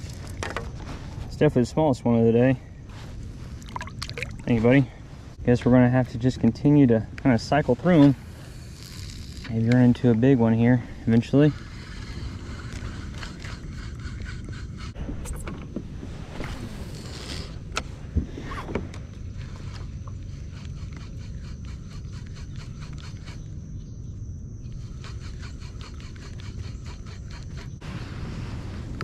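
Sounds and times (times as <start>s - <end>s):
wind rumbling on microphone: 0.0s - 21.1s, 24.8s - 29.0s.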